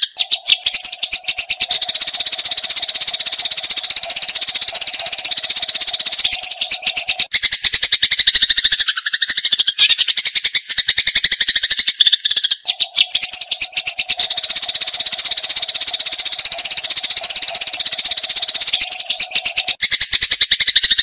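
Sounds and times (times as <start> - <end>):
sparrow chattering: 0.0 - 21.0.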